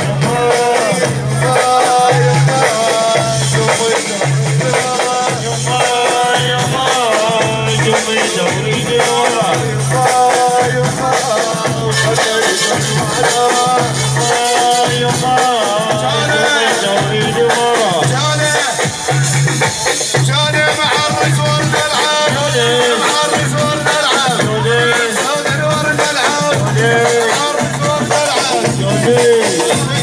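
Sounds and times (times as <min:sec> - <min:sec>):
low beat: 0:00.0 - 0:30.0
ornamented melody line: 0:00.0 - 0:30.0
shaker percussion: 0:00.0 - 0:30.0.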